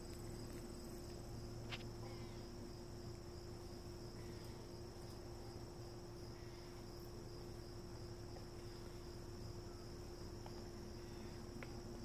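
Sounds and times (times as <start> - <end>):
crickets chirring: 0.0 - 12.0
faint low hum: 0.0 - 12.0.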